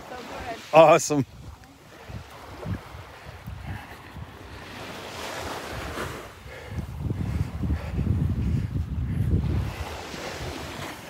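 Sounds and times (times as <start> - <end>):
small waves lapping on beach: 0.0 - 11.0
wind on microphone: 1.2 - 11.0.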